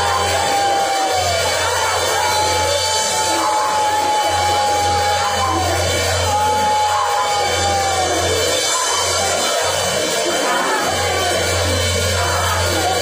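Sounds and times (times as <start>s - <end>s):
worship music through speakers: 0.0s - 13.0s.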